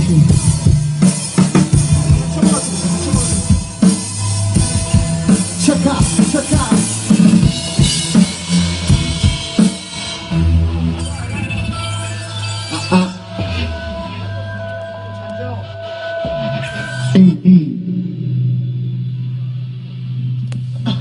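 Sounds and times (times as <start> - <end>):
live band instrumental: 0.0 - 20.9.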